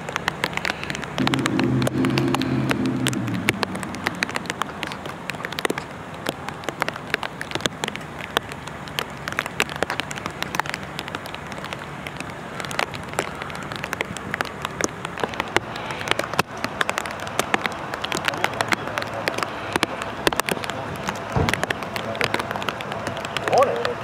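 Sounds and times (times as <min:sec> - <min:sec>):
sharp raindrop hits: 0:00.0 - 0:24.0
steady rain hiss: 0:00.0 - 0:24.0.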